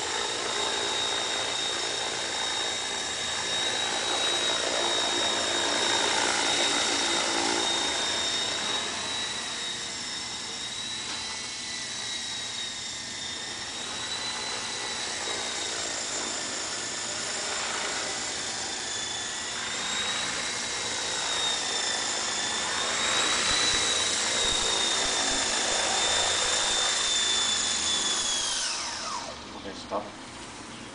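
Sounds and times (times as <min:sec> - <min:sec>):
model helicopter motor whine: 0:00.0 - 0:30.9
rotor blades rushing: 0:00.0 - 0:30.9.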